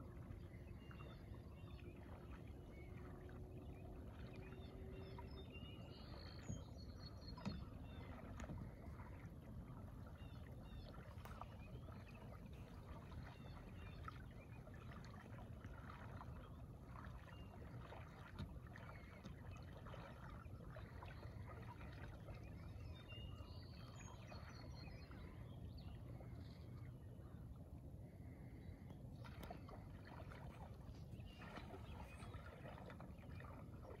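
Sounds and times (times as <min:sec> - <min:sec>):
soft water splashes and drips: 0:00.0 - 0:34.0.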